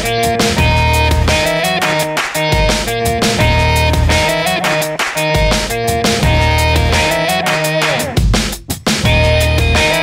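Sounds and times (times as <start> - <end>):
music with heavy beat and bass: 0.0 - 10.0.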